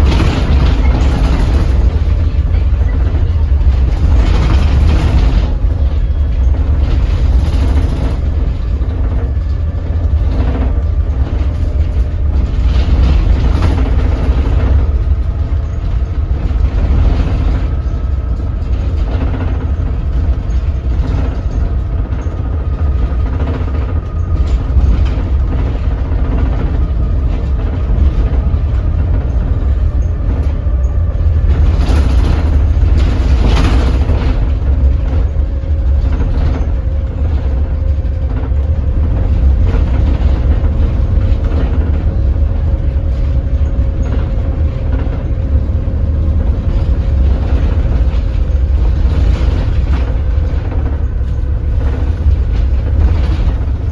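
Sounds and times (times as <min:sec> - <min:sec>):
bus diesel engine rumbling: 0:00.0 - 0:53.9.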